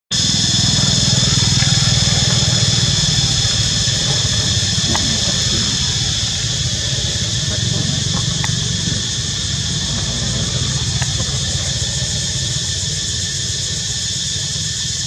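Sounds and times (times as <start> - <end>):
high-pitched buzz: 0.2 - 14.5
low engine-like rumble: 0.2 - 15.0.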